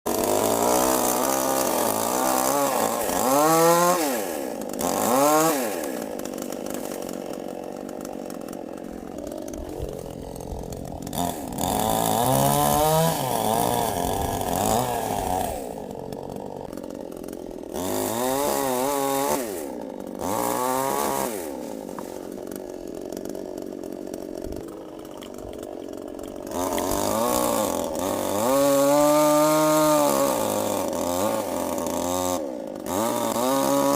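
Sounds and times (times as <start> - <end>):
chainsaw engine revving: 0.1 - 33.9.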